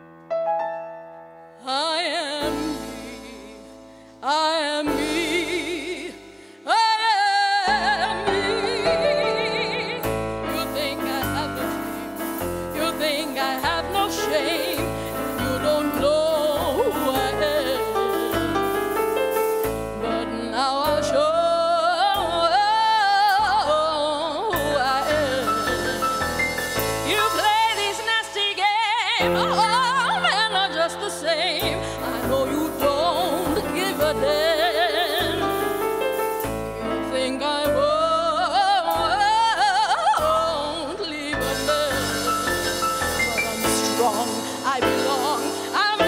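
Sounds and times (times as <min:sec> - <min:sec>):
woman singing with vibrato: 0:01.6 - 0:46.0
instrumental accompaniment with bass: 0:07.7 - 0:28.4, 0:29.2 - 0:46.0.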